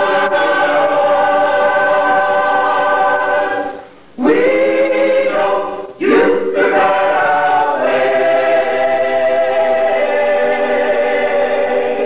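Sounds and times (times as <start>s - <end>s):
gospel choir singing in harmony: 0.0s - 12.0s.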